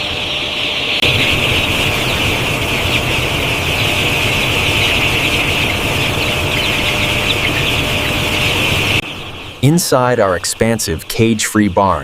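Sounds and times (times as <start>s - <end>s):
chicks peeping: 0.0s - 12.0s
low machine hum: 0.0s - 12.0s.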